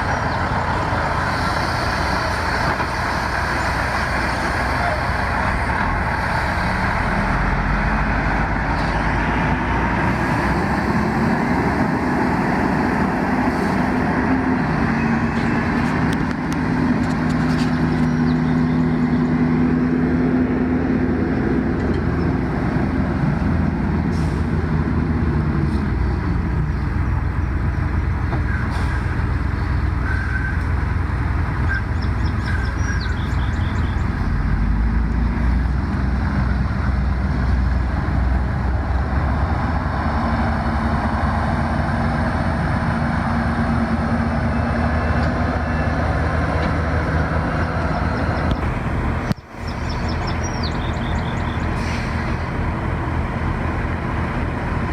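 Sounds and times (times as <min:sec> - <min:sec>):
heavy engine droning: 0:00.0 - 0:54.9.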